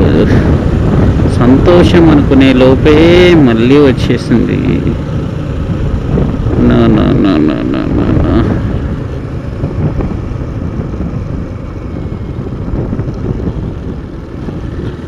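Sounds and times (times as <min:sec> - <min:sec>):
wind noise on microphone: 0:00.0 - 0:04.0, 0:04.7 - 0:15.0
motorcycle engine running: 0:00.0 - 0:15.0.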